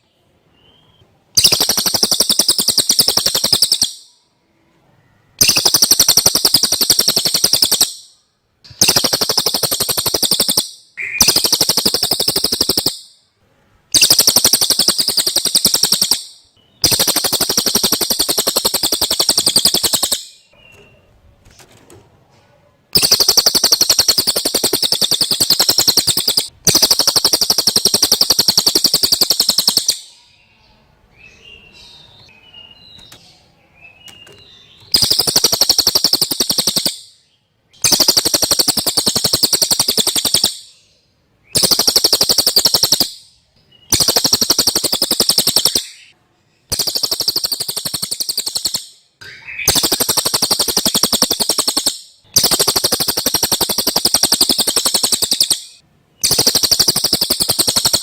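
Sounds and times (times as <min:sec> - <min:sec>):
songbird rapid chattering song: 0:00.0 - 0:04.2, 0:05.3 - 0:13.2, 0:13.9 - 0:21.2, 0:22.9 - 0:58.0
faint soft bird chirps: 0:00.0 - 0:58.0.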